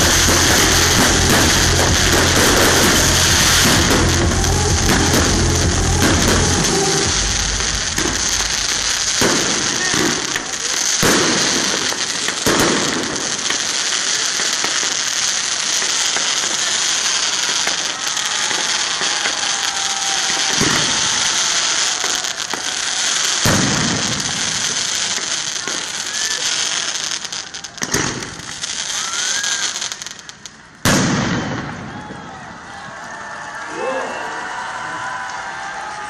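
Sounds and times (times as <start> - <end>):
fireworks hissing and crackling: 0.0 - 33.2
fireworks bangs: 0.0 - 33.6.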